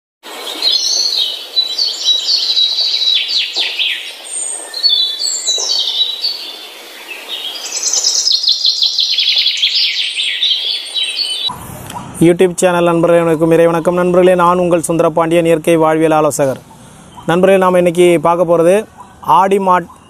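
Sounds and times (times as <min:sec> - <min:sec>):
birds chirping and singing: 0:00.3 - 0:20.0.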